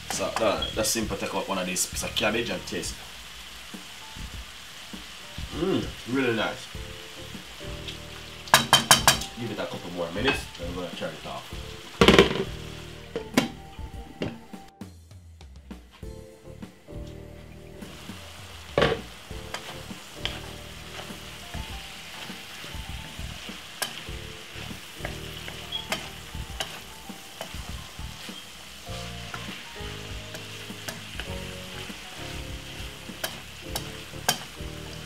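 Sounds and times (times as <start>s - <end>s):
food sizzling in a frying pan: 0.0s - 14.3s, 17.0s - 35.0s
faint background music: 0.0s - 35.0s.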